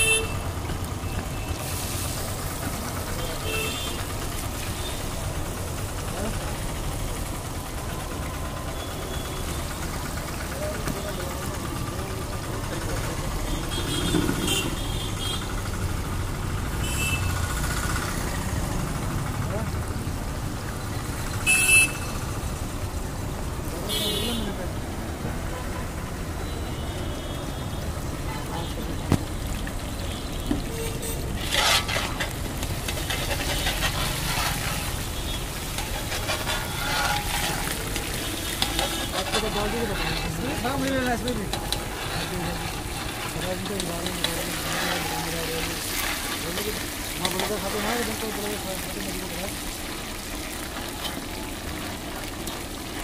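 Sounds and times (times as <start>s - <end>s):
metal skimmers stirring: 0.0s - 16.0s, 25.9s - 53.0s
oil sizzling and bubbling: 0.0s - 53.0s.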